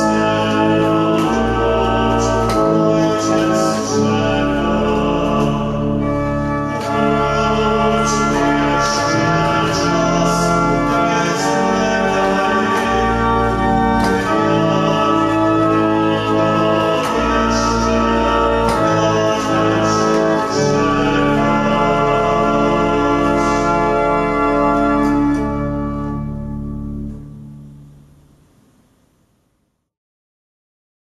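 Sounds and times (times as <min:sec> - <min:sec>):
church organ playing chords: 0:00.0 - 0:29.0.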